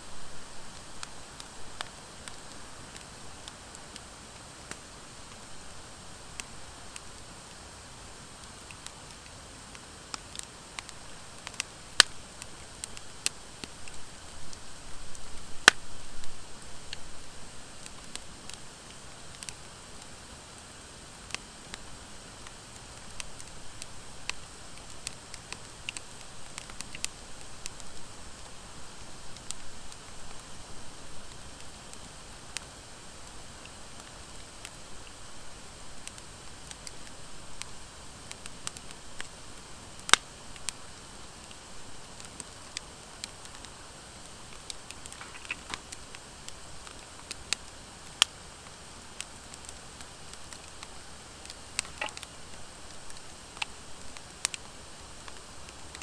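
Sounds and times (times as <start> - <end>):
wood fire hissing: 0.0 - 56.0
fire crackling and popping: 0.5 - 56.0.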